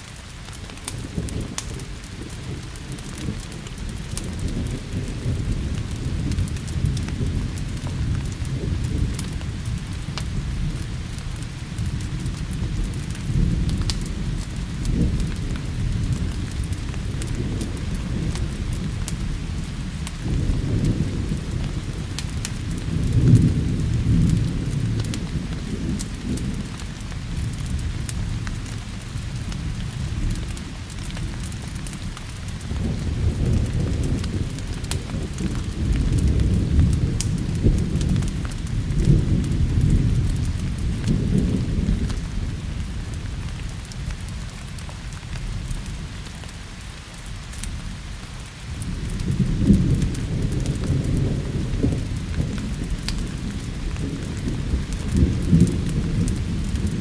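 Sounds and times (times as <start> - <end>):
sharp crackles: 0.0 - 57.0
steady rain: 0.0 - 57.0
rolling thunder: 0.8 - 46.2, 48.7 - 57.0.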